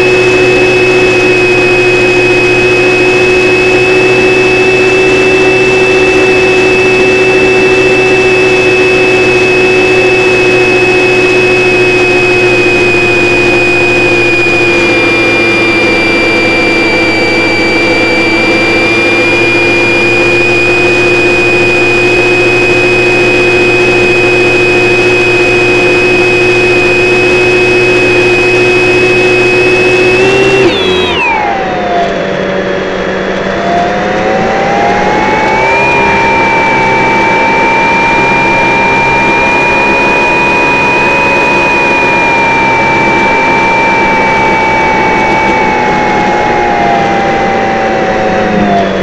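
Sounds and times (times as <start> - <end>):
model airplane motor whining: 0.0 - 49.0.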